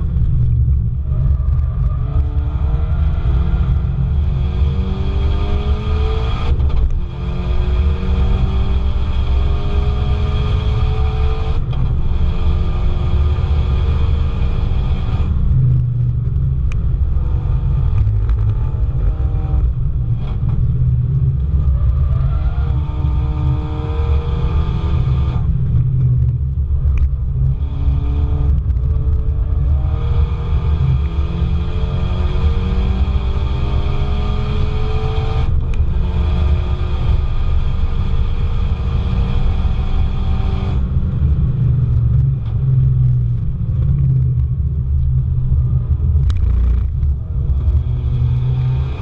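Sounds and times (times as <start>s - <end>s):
car engine revving: 0.0s - 49.0s
road and wind rumble: 0.0s - 49.0s.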